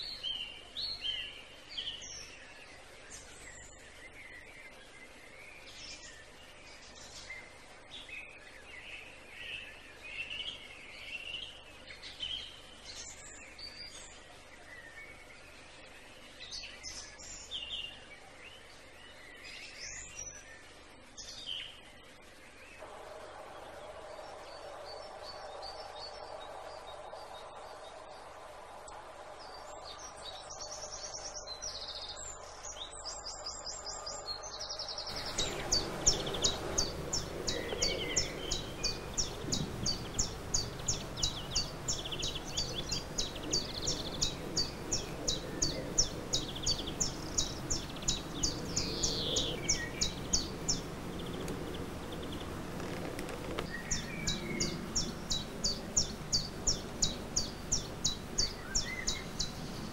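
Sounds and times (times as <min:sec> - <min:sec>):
birds singing: 0:00.0 - 0:59.9
outdoor background noise: 0:00.0 - 0:59.9.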